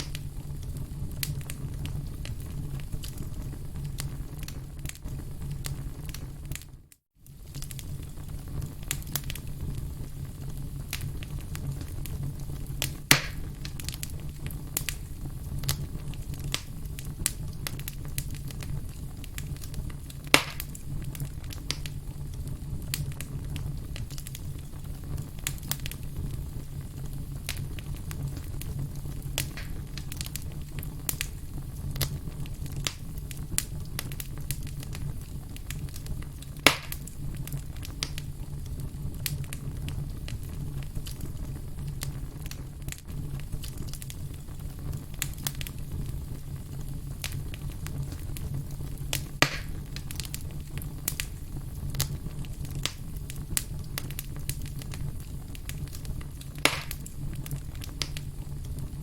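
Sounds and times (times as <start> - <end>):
campfire crackling: 0.0 - 59.0
sharp fire pops: 0.0 - 59.0.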